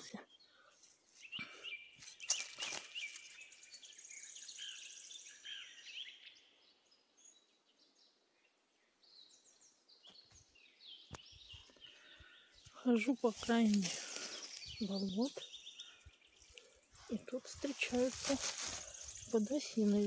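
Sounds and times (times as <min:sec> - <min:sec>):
small birds chirping and trilling: 0:00.0 - 0:20.0.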